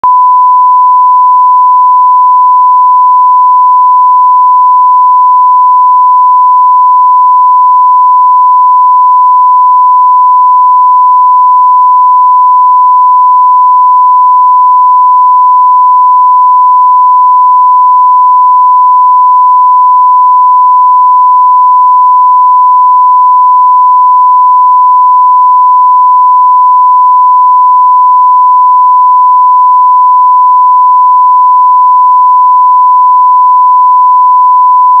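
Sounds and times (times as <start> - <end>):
censor bleep tone: 0.0 - 35.0.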